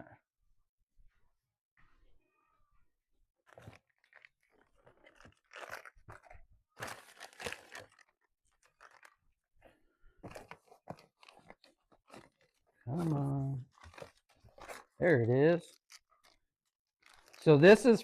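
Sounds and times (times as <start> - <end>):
rustling and crunching packaging: 3.4 - 18.0.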